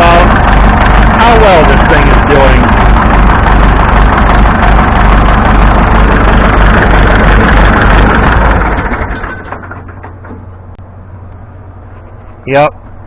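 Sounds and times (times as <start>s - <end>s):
tractor engine knocking: 0.0s - 10.8s.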